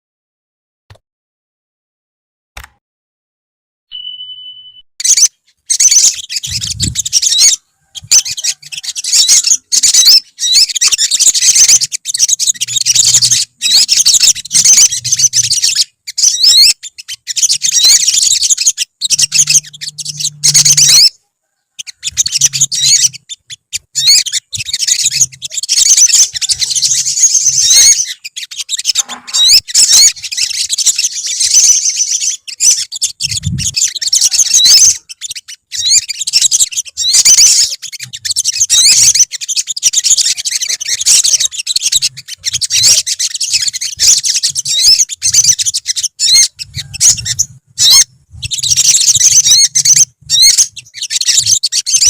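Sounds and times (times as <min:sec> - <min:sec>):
birds chirping and trilling: 0:04.0 - 0:52.0.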